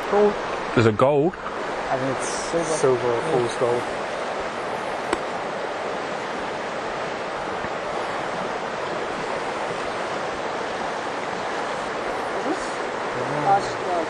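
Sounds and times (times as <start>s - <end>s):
river rushing over stones: 0.0s - 14.0s.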